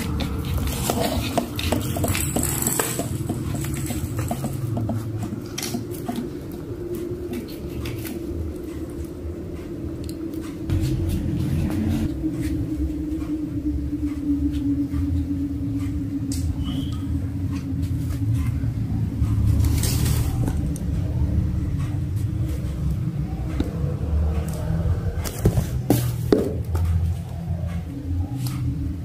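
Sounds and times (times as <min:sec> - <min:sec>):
low rumble and hum: 0:00.0 - 0:29.0.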